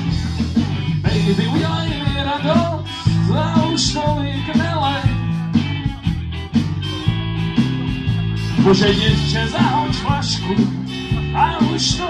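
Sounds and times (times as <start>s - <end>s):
bending lead guitar melody: 0.0s - 12.0s
rock band playing live: 0.0s - 12.0s.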